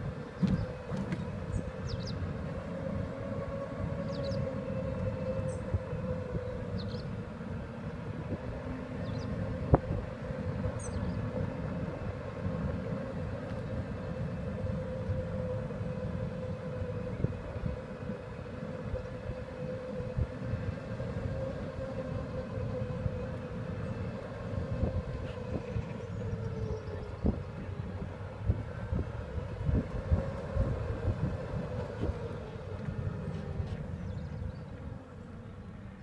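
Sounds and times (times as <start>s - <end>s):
wheels rumbling on tarmac: 0.0s - 36.0s.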